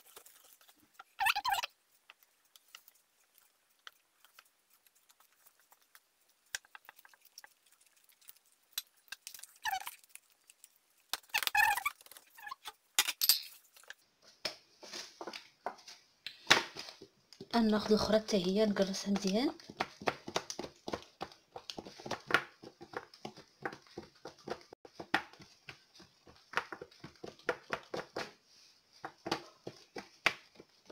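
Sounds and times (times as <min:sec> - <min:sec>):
hands kneading sticky dough: 0:00.0 - 0:12.9, 0:13.7 - 0:30.9.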